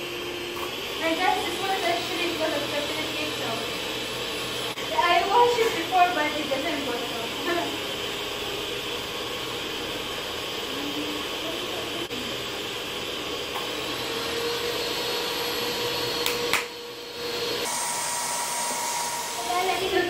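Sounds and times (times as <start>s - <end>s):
electric hand mixer whirring: 0.0s - 20.0s.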